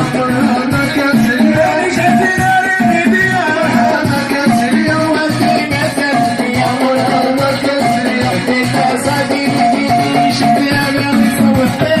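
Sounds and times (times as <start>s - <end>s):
percussion beat with shakers: 0.0s - 12.0s
person singing: 0.0s - 12.0s.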